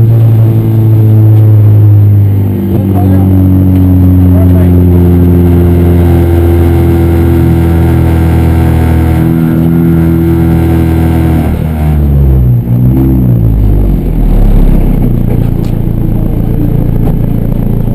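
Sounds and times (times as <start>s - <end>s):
race car engine running: 0.0s - 17.9s.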